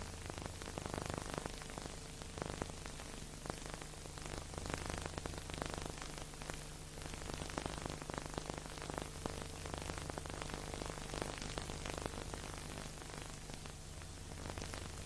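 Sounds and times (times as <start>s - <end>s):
hiss with crackles and clicks: 0.0s - 15.0s
low steady hum: 0.0s - 15.0s.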